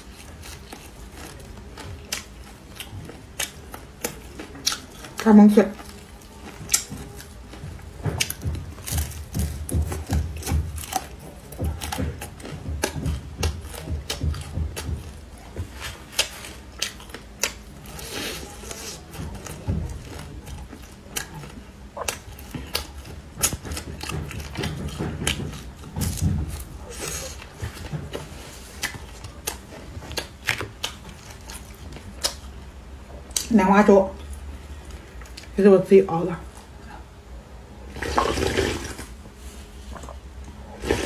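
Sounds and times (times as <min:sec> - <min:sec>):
crunchy chewing: 0:00.0 - 0:33.5.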